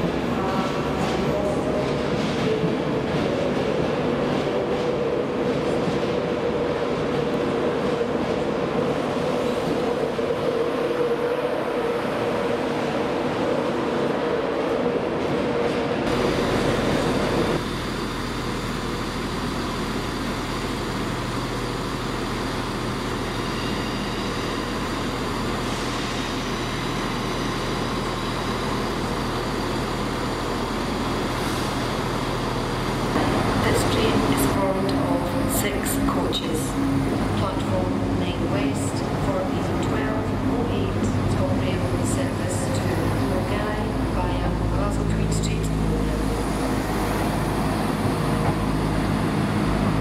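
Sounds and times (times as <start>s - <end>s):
train engine low hum: 0.0s - 50.0s
train rumbling along platform: 0.0s - 50.0s.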